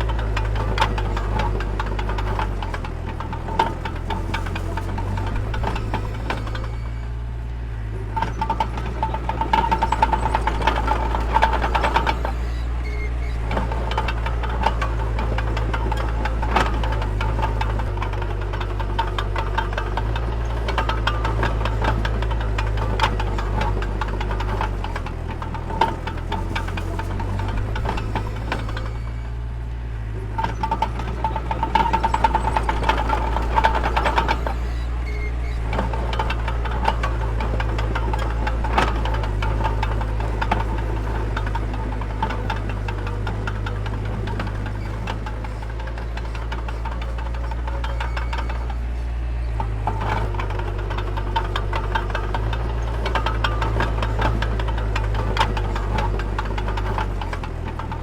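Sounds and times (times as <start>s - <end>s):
metallic clanking and rattling: 0.0s - 7.1s, 8.0s - 58.0s
heavy machine engine droning: 0.0s - 58.0s
rapid metallic clatter with squeal: 0.0s - 58.0s.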